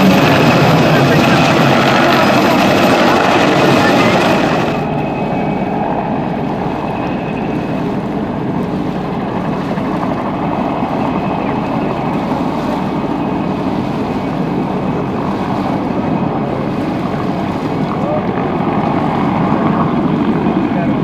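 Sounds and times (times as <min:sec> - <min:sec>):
helicopter turbine and rotor: 0:00.0 - 0:21.0
wind on microphone: 0:00.0 - 0:21.0.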